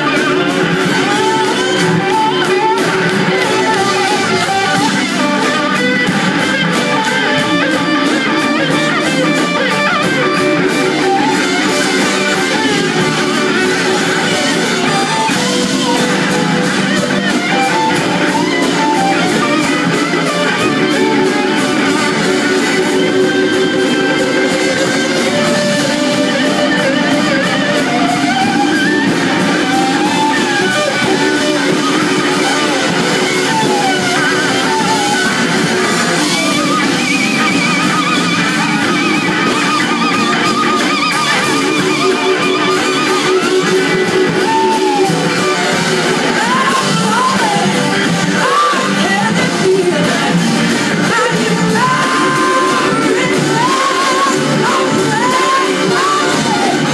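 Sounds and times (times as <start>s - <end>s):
gliding lead electric guitar: 0.0s - 56.9s
live rock band: 0.0s - 56.9s.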